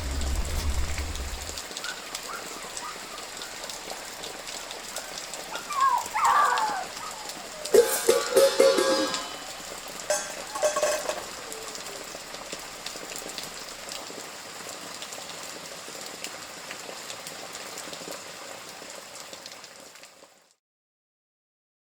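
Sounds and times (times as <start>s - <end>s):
rain patter: 0.0s - 20.6s.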